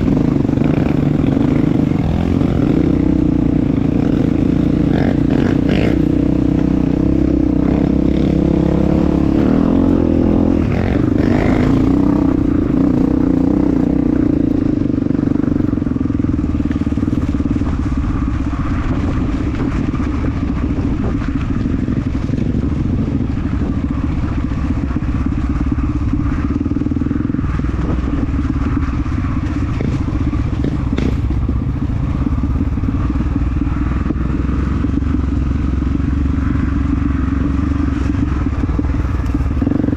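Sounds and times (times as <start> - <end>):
trail bike engine: 0.0 - 39.9.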